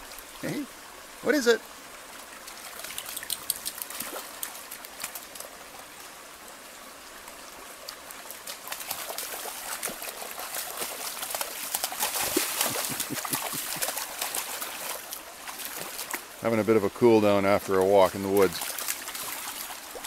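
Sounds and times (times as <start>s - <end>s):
creek trickling: 0.0s - 20.0s
dog paws splashing in water: 2.2s - 6.2s, 7.3s - 20.0s.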